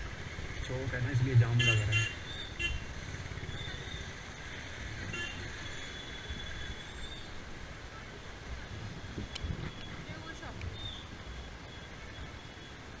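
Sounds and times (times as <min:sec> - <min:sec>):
idling traffic engine rumble: 0:00.0 - 0:13.0.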